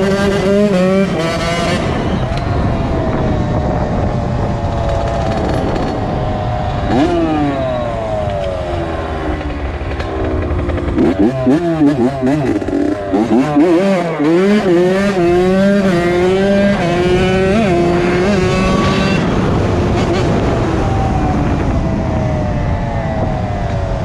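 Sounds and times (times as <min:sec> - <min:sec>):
two-stroke motorcycle engine revving: 0:00.0 - 0:24.0
wind noise on microphone: 0:00.0 - 0:24.0.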